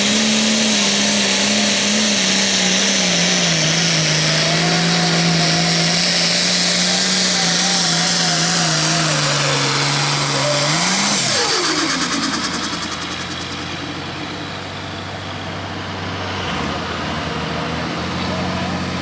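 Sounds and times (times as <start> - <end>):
tractor diesel engine revving: 0.0 - 19.0.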